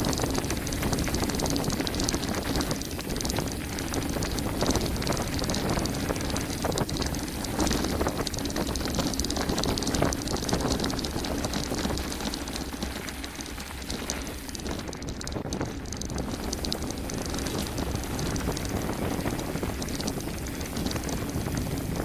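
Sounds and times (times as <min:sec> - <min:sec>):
bike rattling: 0:00.0 - 0:22.0
wind on microphone: 0:00.0 - 0:22.0.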